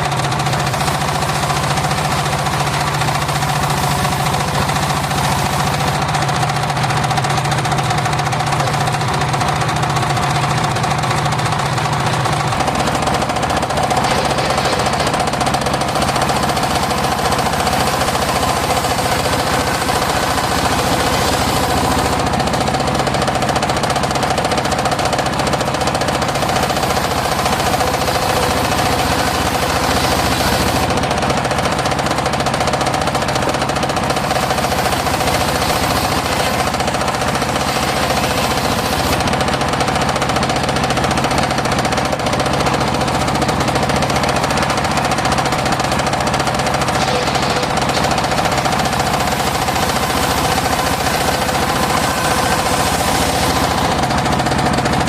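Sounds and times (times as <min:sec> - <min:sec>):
saw blade whine: 0:00.0 - 0:55.0
sawmill engine running: 0:00.0 - 0:55.0.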